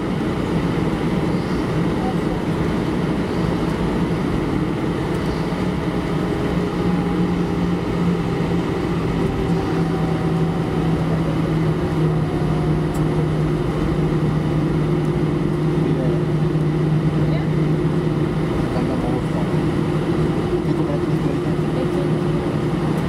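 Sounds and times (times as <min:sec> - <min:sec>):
airplane cabin engine drone: 0:00.0 - 0:23.0
low taxiing rumble: 0:00.0 - 0:23.0.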